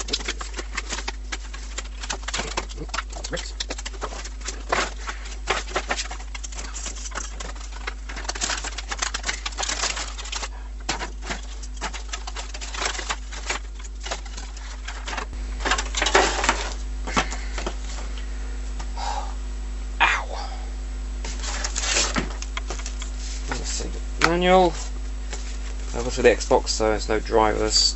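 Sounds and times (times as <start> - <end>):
packaging crinkling and rustling: 0.0 - 18.0, 21.3 - 26.7.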